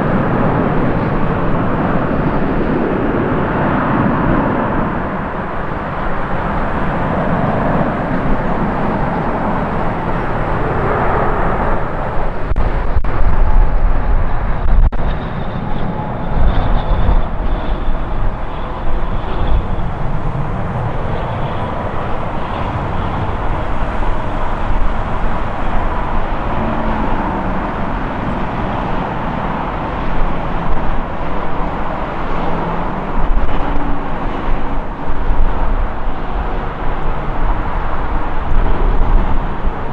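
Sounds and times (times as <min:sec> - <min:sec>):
jet engines roaring: 0:00.0 - 0:39.9
wind on microphone: 0:00.0 - 0:39.9.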